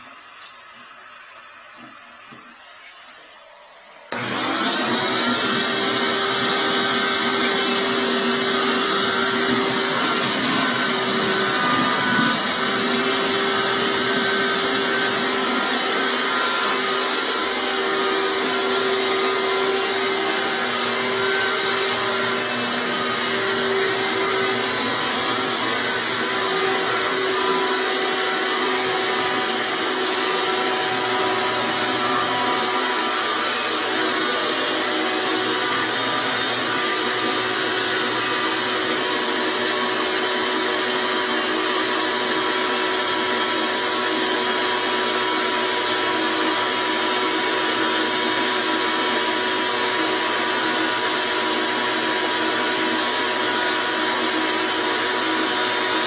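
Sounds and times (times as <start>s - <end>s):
electric motor running: 4.1s - 49.1s.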